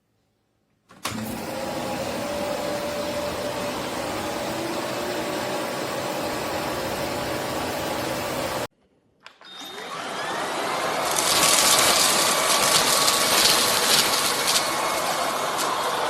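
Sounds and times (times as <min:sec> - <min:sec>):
vacuum motor whining: 0:01.0 - 0:08.7, 0:09.6 - 0:16.0.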